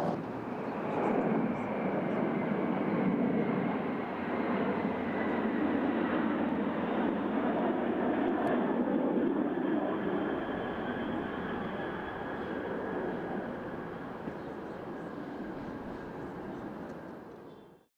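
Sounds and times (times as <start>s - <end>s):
jet engine rumble flying past: 0.0s - 17.8s.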